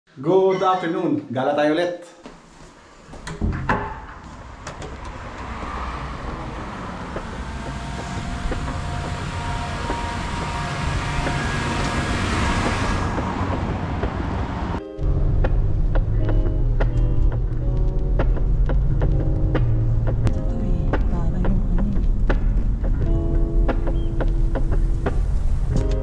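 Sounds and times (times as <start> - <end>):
outdoor traffic: 2.7 - 26.0
wind noise: 3.4 - 26.0.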